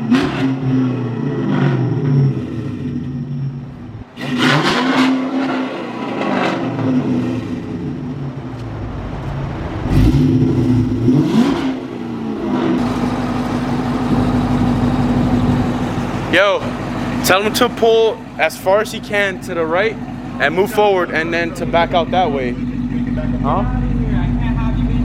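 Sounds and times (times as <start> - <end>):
car engine idling: 0.0 - 25.0
car engine revving loud exhaust: 0.0 - 25.0.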